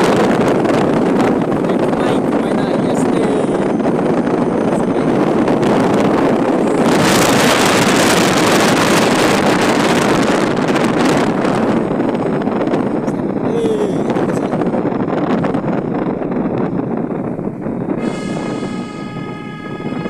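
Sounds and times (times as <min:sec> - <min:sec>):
vehicle and tyres rumbling on road: 0:00.0 - 0:20.0
wind buffeting microphone: 0:00.0 - 0:20.0.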